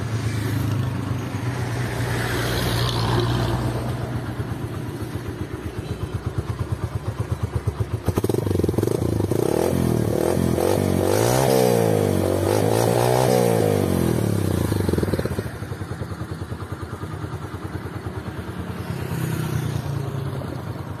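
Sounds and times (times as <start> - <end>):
motorcycle engine revving and idling: 0.0 - 21.0.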